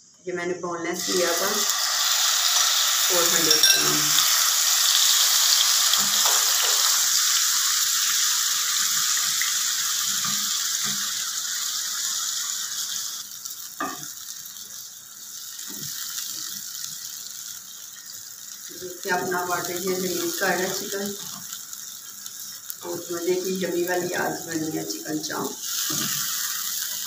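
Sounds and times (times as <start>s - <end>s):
chicken frying in hot oil: 1.0s - 27.0s.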